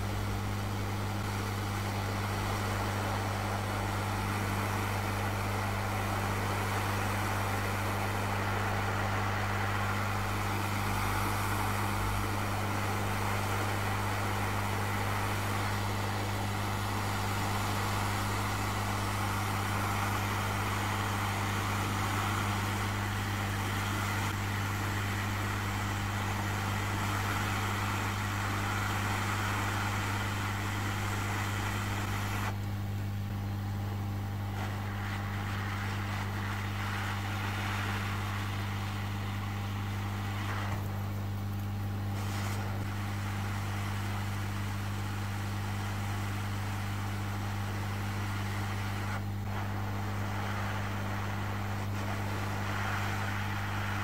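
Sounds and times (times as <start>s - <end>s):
hot air station blowing: 0.0s - 54.0s.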